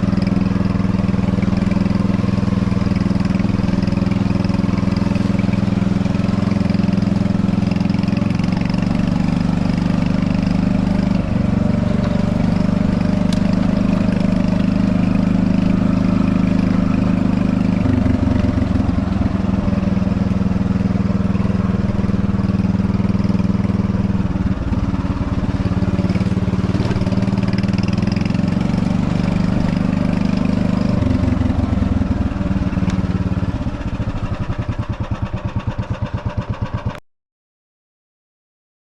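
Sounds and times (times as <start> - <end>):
golf cart engine running: 0.0 - 37.0.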